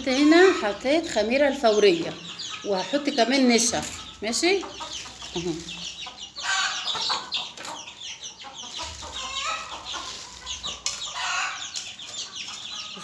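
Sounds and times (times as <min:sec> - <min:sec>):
chicks and ducklings peeping: 0:00.0 - 0:13.0.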